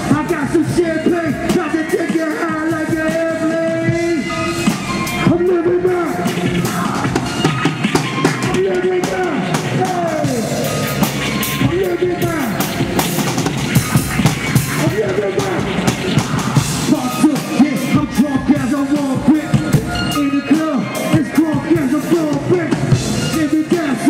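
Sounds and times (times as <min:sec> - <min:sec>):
loud music with drums: 0:00.0 - 0:24.0.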